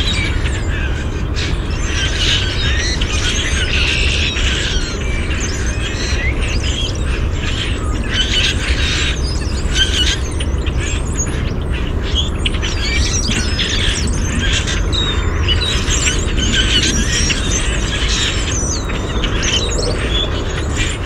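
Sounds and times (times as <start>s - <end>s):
flock of birds calling: 0.0s - 21.0s
steady low rumble: 0.0s - 21.0s.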